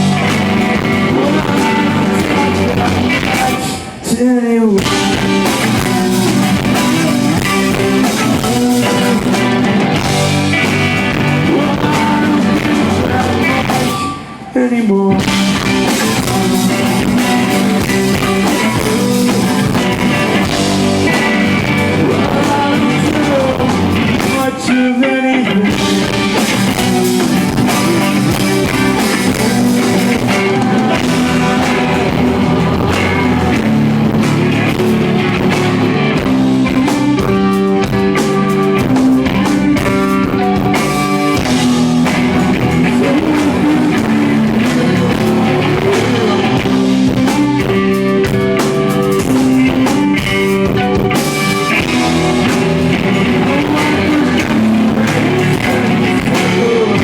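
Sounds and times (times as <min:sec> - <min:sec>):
drum kit: 0:00.0 - 0:04.2, 0:04.8 - 0:14.5, 0:15.1 - 0:24.8, 0:25.6 - 0:57.0
live rock band playing: 0:00.0 - 0:04.2, 0:04.8 - 0:57.0
guitars: 0:00.0 - 0:57.0.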